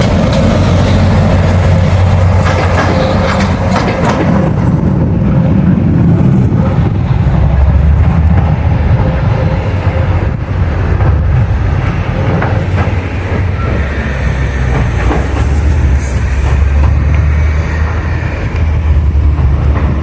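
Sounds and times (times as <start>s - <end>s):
train rumbling past: 0.0s - 20.0s
wheels clicking over rail joints: 0.0s - 20.0s.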